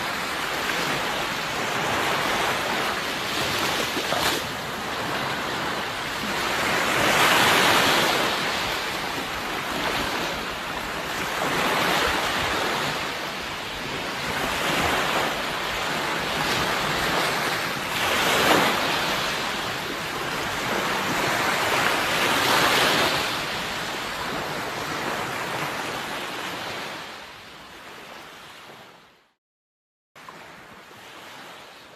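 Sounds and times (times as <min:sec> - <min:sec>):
sea waves breaking: 0:00.0 - 0:27.2.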